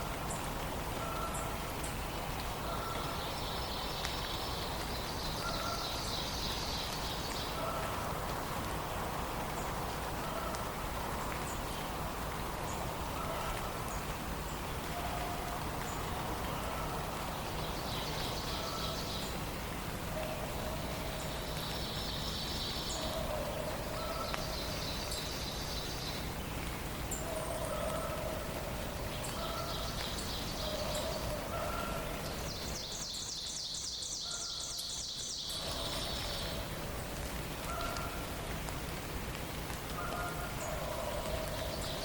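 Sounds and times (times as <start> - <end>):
steady background hiss: 0.0 - 42.0.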